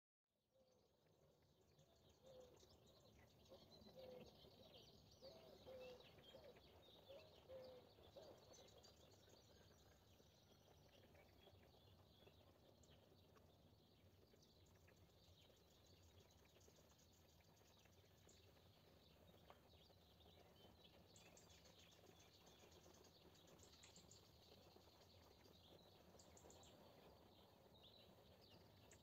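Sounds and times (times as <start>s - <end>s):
small birds chirping and trilling: 0.7s - 29.0s.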